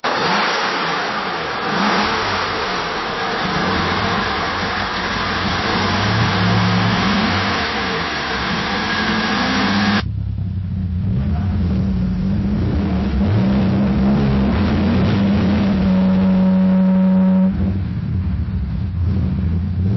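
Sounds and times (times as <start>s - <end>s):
car engine revving: 0.0s - 19.9s.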